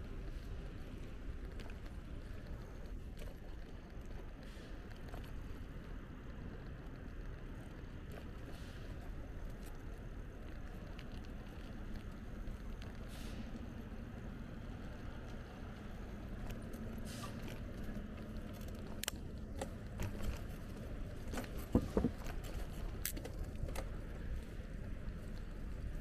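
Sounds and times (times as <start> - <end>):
bike clicks and rattles: 0.0 - 26.0.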